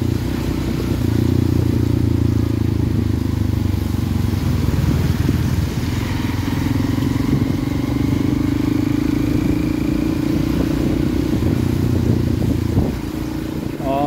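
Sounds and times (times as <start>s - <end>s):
motorcycle engine running: 0.0s - 14.0s
road and wind noise: 0.0s - 14.0s.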